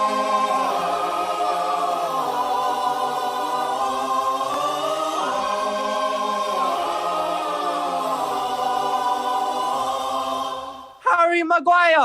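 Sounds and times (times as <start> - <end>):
choir singing in harmony: 0.0 - 11.0.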